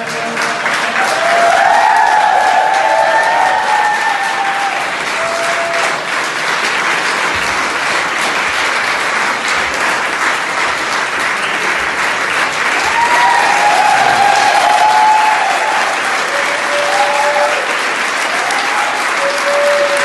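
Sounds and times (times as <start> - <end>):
many hands clapping: 0.0 - 20.0.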